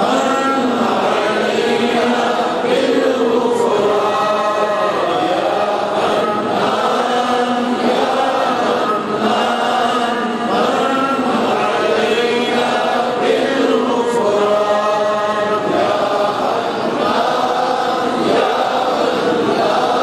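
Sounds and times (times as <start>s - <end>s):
men chanting: 0.0s - 20.0s.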